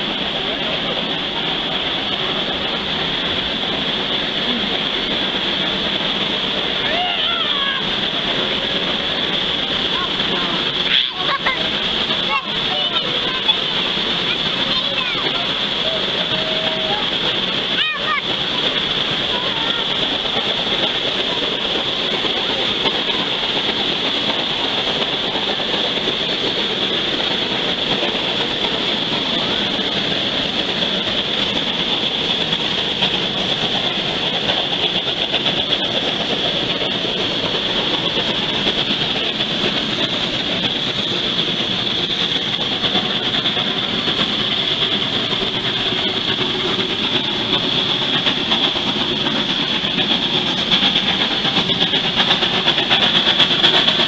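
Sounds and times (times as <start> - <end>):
high-pitched steam hiss: 0.0 - 54.0
steam locomotive rumble: 0.0 - 54.0.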